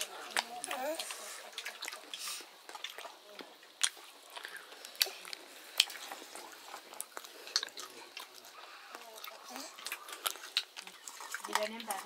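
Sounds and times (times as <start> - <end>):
wet chewing and mouth smacks: 0.0 - 12.0.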